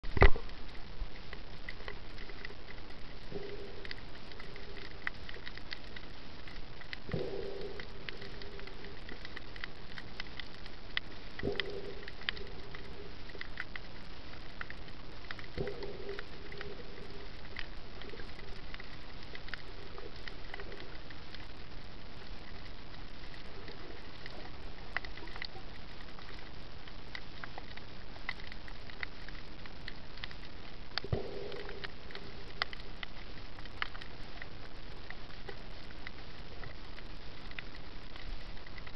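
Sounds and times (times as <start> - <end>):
faint underwater clicks: 0.0 - 38.9
steady underwater hiss: 0.0 - 38.9.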